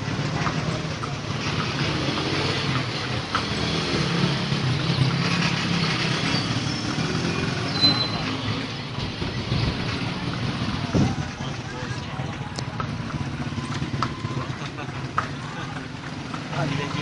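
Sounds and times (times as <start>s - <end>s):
carriage wheels rumbling and rattling: 0.0s - 17.0s.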